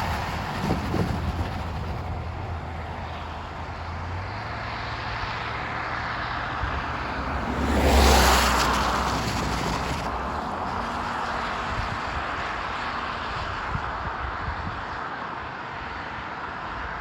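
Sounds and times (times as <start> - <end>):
vehicle passing by: 0.0 - 14.1
low engine hum: 0.0 - 15.0.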